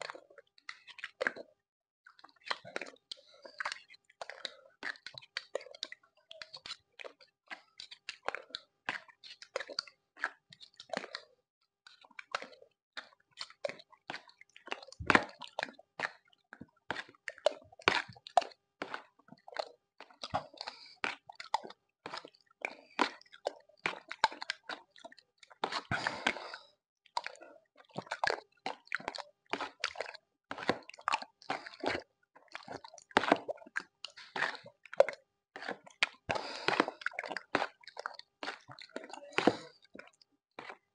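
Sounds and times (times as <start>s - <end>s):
wet slurping and chewing: 0.0s - 1.5s, 2.1s - 40.9s.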